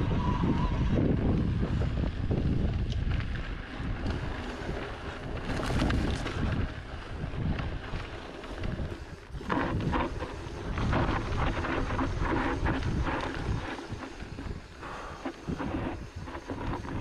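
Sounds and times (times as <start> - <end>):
wind buffeting microphone: 0.0 - 17.0
bike clicks and rattles: 1.1 - 17.0.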